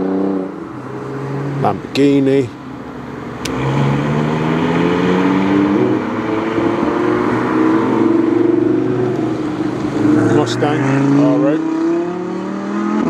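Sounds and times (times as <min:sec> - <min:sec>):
car engines accelerating: 0:00.0 - 0:13.0.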